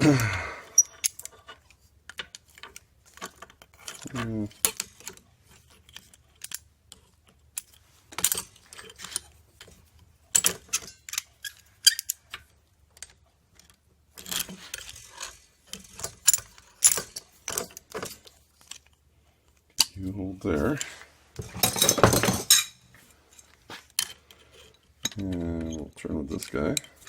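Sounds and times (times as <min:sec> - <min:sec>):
small metal hardware clinking: 0:00.7 - 0:18.9, 0:20.6 - 0:27.0.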